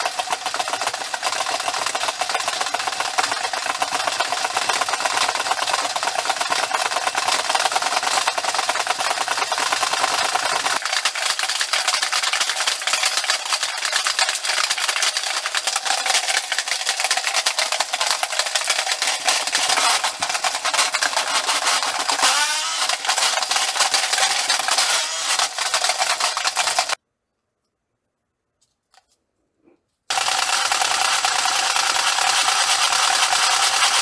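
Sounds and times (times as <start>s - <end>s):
toy motor rattling whir: 0.0s - 27.0s, 30.1s - 34.0s.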